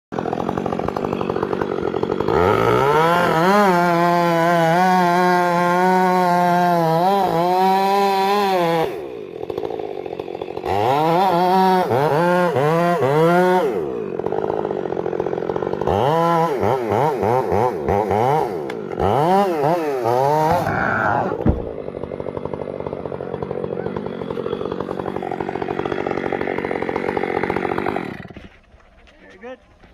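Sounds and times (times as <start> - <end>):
chainsaw revving and cutting wood: 0.1 - 29.9.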